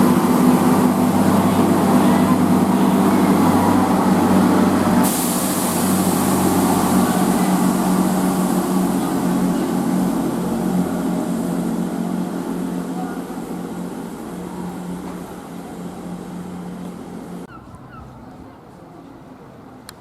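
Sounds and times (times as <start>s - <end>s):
diesel train engine humming: 0.0s - 20.0s.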